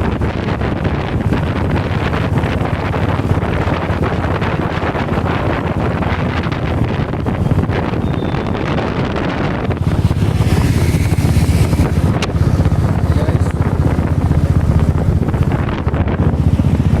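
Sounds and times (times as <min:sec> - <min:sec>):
motorcycle riding at speed: 0:00.0 - 0:17.0
wind buffeting microphone: 0:00.0 - 0:17.0.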